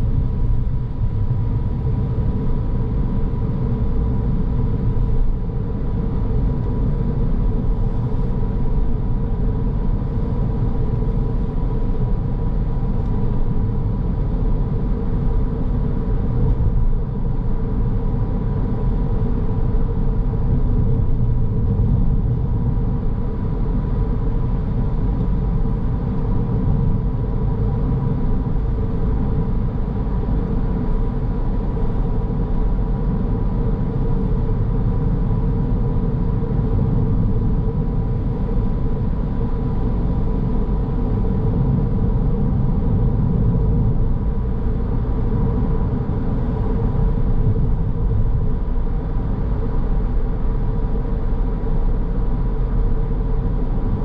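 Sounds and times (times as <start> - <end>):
car tyres and engine rumble: 0.0 - 54.0
faint steady whine: 0.0 - 54.0.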